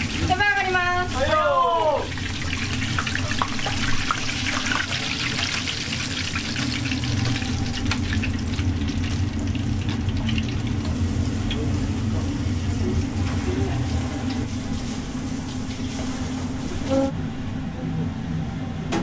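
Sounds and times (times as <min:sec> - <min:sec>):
chicken wings sizzling in hot oil: 0:00.0 - 0:16.9.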